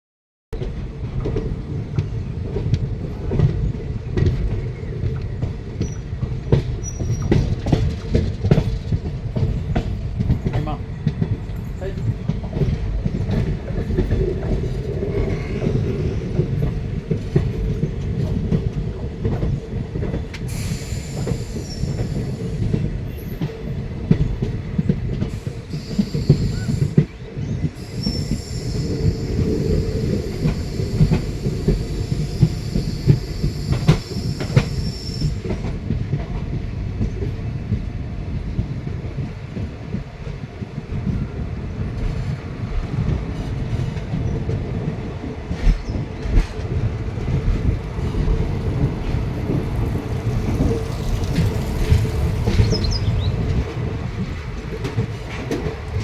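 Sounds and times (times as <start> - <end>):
train rumbling on rails: 0.6 - 56.0.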